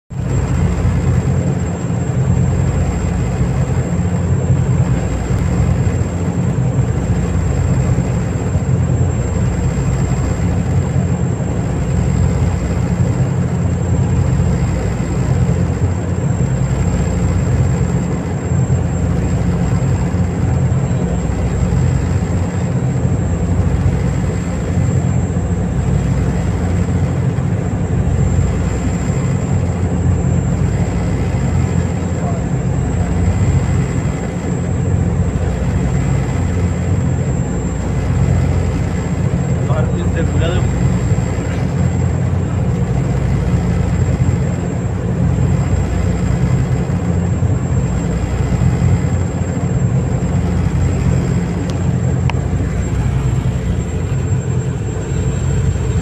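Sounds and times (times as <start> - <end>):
ferry engines droning: 0.0 - 56.0
high steady whine: 0.0 - 56.0
water rushing along hull: 0.0 - 56.0.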